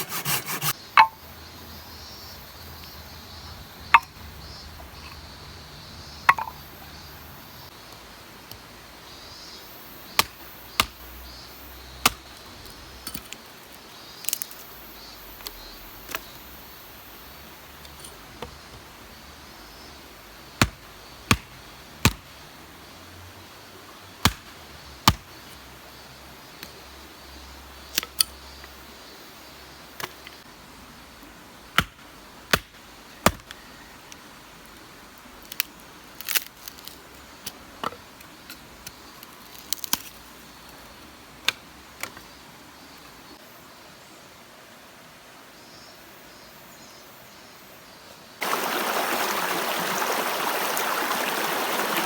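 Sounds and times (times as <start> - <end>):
faint steady background noise: 0.0 - 52.0.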